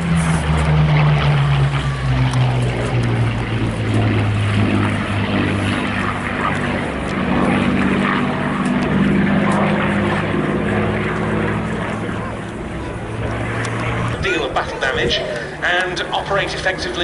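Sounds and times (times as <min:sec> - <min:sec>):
propeller aircraft flying past: 0:00.0 - 0:17.0.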